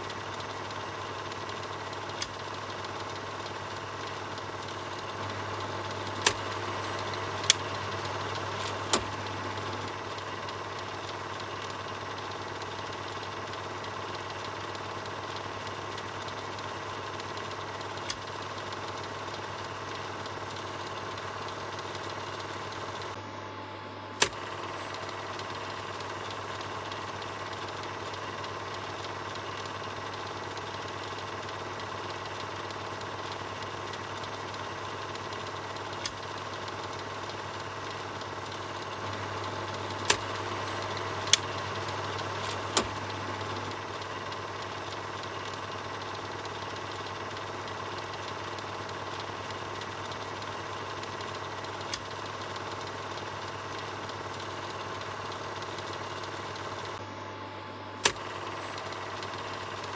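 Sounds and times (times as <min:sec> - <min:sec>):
sharp projector clicks: 0:00.0 - 0:23.2, 0:24.2 - 0:57.0, 0:58.0 - 0:59.9
film projector running: 0:00.0 - 0:59.9.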